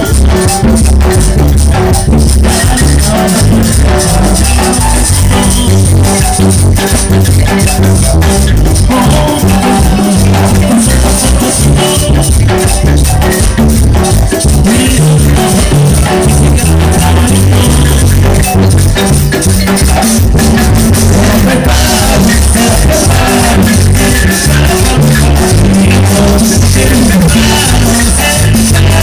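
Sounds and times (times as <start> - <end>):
marimba band playing dance music: 0.0 - 29.0
steady percussion: 0.0 - 29.0
stepping bass line: 0.0 - 29.0.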